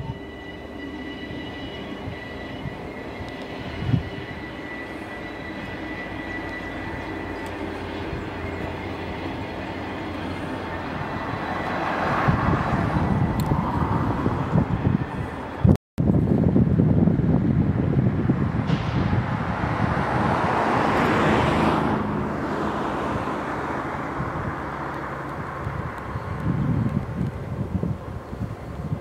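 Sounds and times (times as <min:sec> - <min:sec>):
train rumble with high whine: 0:00.0 - 0:29.0
train rushing noise: 0:00.0 - 0:29.0.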